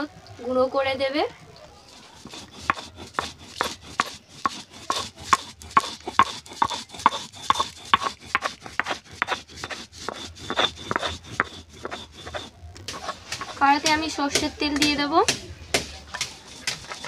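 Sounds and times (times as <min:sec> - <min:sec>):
stone roller grinding on stone slab: 0:01.8 - 0:17.0.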